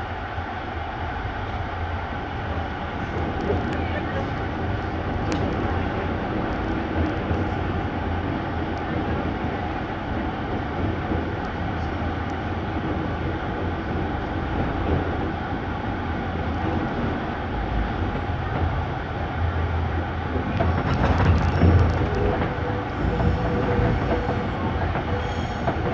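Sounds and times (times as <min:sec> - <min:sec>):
train rumbling and rattling: 0:00.0 - 0:25.9.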